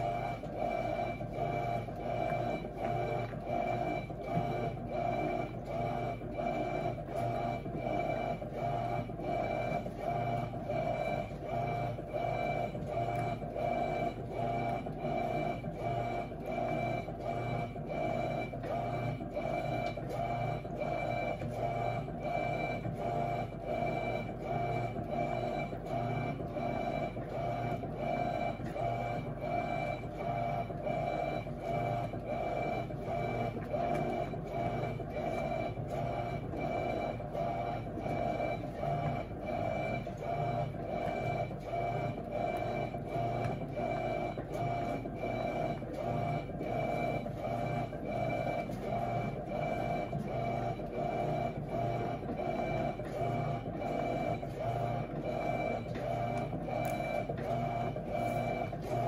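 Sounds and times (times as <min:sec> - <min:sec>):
washing machine hum: 0:00.0 - 0:59.0.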